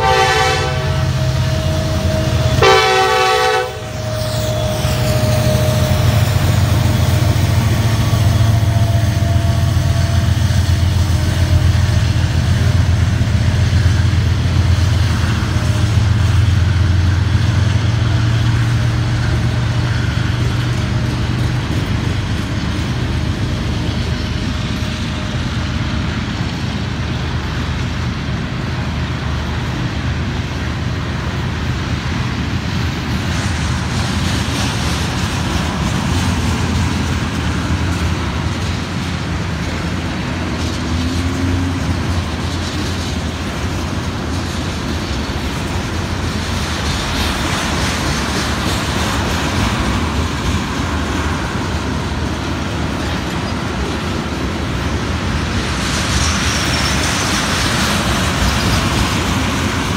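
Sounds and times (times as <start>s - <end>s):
diesel locomotive engines humming: 0.0s - 59.9s
train cars rumbling over rails: 0.0s - 59.9s.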